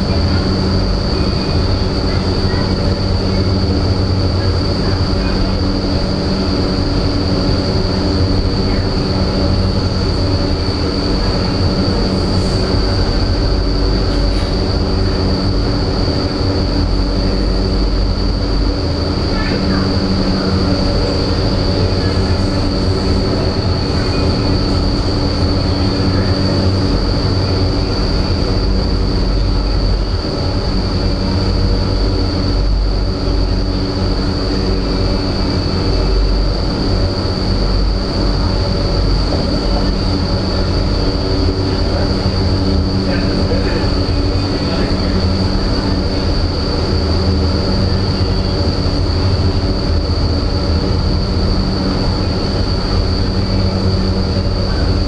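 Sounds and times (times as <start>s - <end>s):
deep fan rumble: 0.0s - 55.0s
high-pitched whine: 0.0s - 55.0s
low hum: 0.0s - 55.0s.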